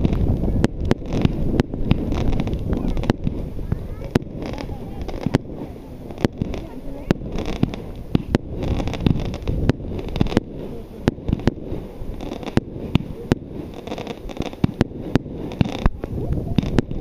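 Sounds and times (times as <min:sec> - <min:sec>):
continuous low rumble: 0:00.0 - 0:17.0
firework bangs: 0:00.0 - 0:17.0.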